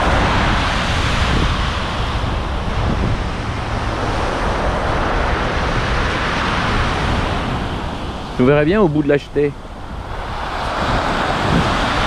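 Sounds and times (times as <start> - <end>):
sea surf breaking: 0.0 - 12.0
wind buffeting the microphone: 0.0 - 12.0.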